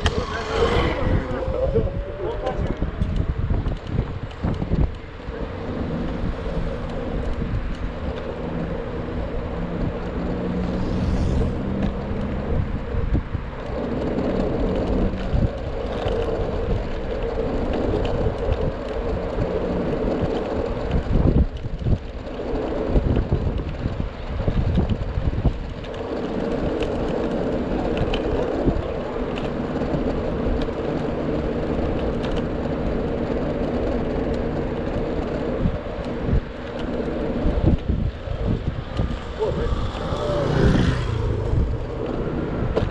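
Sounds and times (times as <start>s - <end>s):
wheels rumbling on street: 0.0s - 42.9s
wind on microphone: 0.0s - 42.9s.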